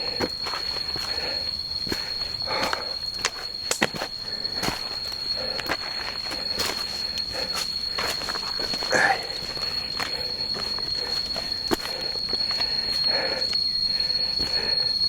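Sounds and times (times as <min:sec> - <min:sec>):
footsteps on rocky dirt trail: 0:00.0 - 0:14.8
insects droning: 0:00.0 - 0:15.0.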